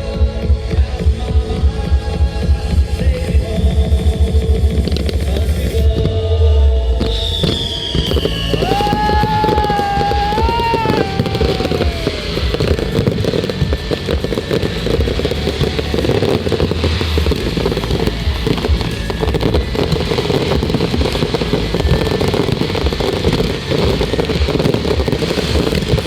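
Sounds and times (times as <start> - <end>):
fireworks crackling and banging: 0.0 - 26.0
music from loudspeakers: 0.0 - 26.0.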